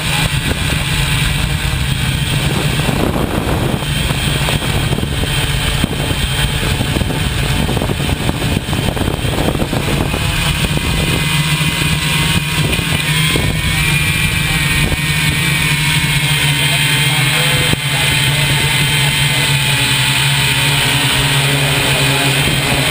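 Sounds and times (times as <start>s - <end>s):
faint high whine: 0.0s - 22.9s
vehicle engine hum: 0.0s - 22.9s.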